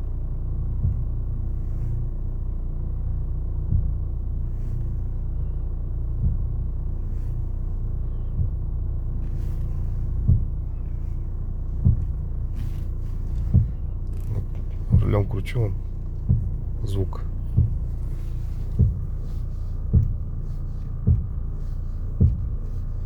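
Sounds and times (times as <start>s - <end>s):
car engine low rumble: 0.0s - 23.0s
dull knock from car: 0.7s - 1.7s, 3.4s - 23.0s.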